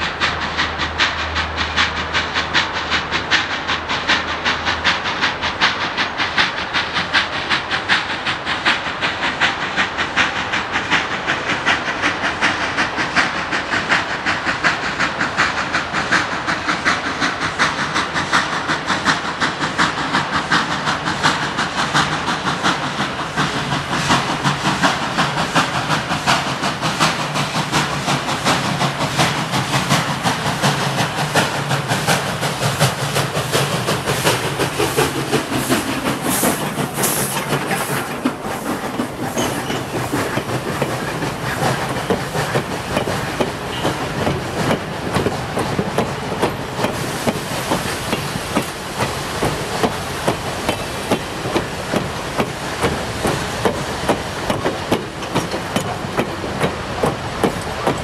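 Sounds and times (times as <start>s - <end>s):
steam hiss: 0.0s - 58.0s
steam locomotive chugging: 0.0s - 58.0s.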